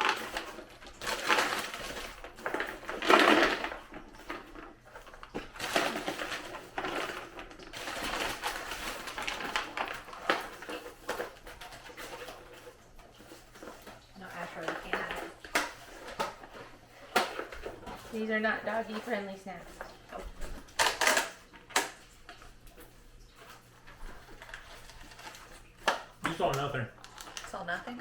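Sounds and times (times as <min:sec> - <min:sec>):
candy packaging rustling: 0:00.0 - 0:28.0.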